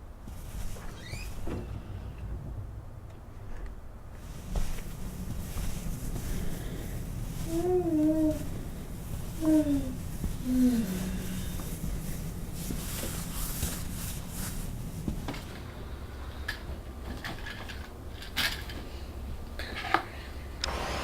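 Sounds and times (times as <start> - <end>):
low hum: 0.0 - 18.5.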